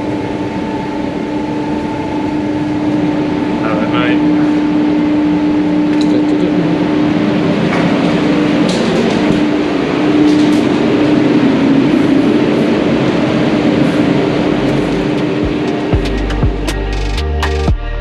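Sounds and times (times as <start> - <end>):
ventilation fans rushing hum: 0.0 - 17.2.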